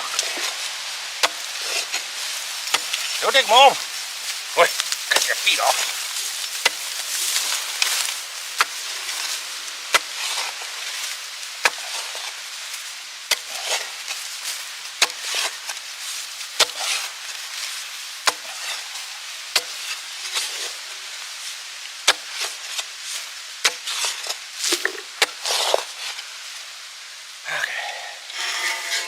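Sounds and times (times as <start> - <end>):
steady sizzling hiss: 0.0 - 29.0.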